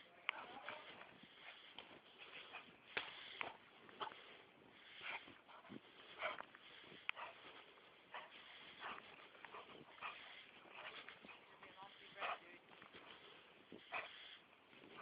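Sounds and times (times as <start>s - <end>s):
dog playing in snow: 0.0s - 15.0s.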